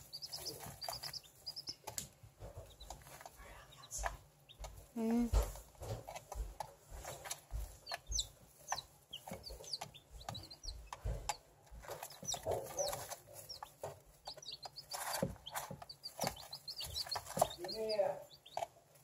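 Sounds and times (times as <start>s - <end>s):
beaks pecking feed dish: 0.0s - 19.0s
chicks peeping: 0.0s - 19.0s.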